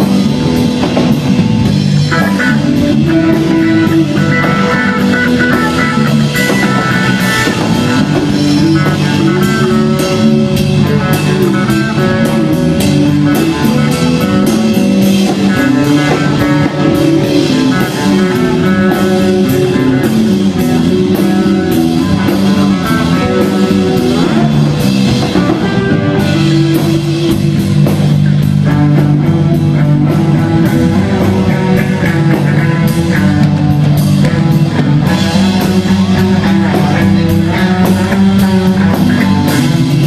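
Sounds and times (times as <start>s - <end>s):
drum kit with cymbals: 0.0s - 40.0s
electric guitar: 0.0s - 40.0s.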